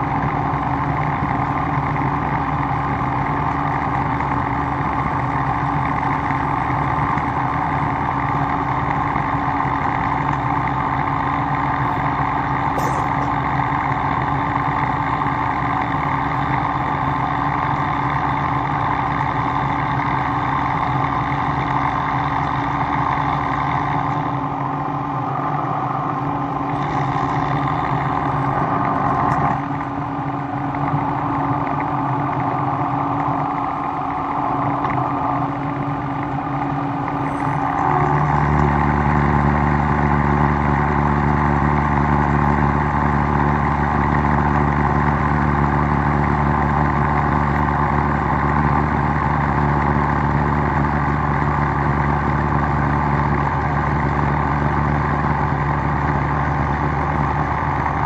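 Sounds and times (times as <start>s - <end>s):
deeper machine hum: 0.0s - 58.0s
shop machinery motor hum: 0.0s - 58.0s.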